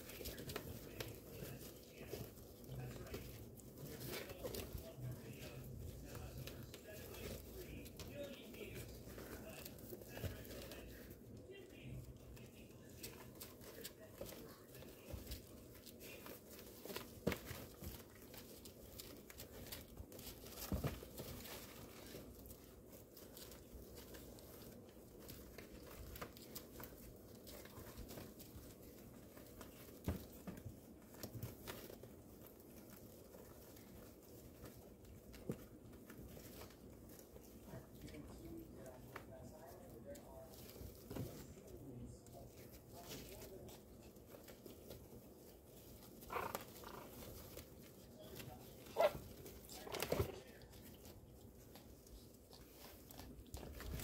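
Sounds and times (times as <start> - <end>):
puppies scrambling on crinkly pads: 0.0 - 54.0.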